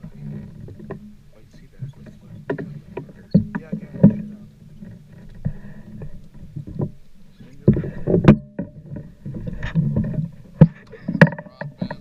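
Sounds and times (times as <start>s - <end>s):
boat low hum: 0.0s - 12.0s
knocks and handling thumps: 0.0s - 12.0s.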